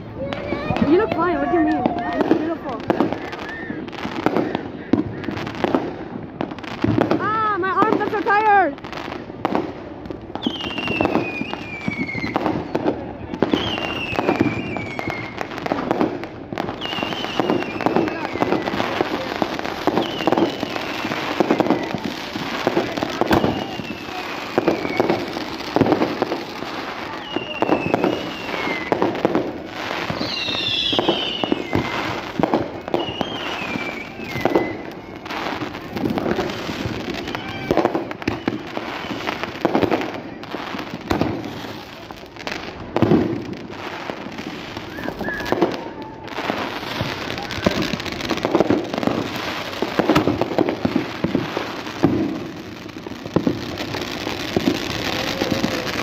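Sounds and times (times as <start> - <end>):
fireworks banging and crackling: 0.0 - 56.0
falling firework whistles: 0.7 - 6.0, 10.3 - 56.0.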